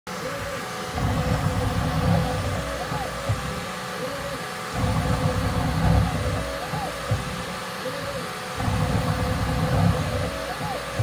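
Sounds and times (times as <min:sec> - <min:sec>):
stepper motors whining: 0:00.1 - 0:11.0.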